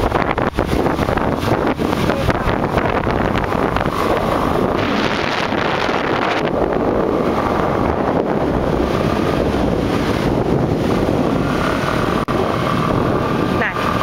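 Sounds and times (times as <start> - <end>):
motorbike running: 0.0 - 14.0
wind over microphone: 0.0 - 14.0.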